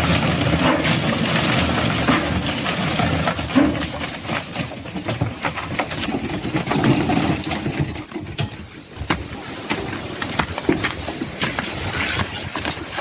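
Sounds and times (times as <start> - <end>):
knocks and clatter: 0.0 - 13.0.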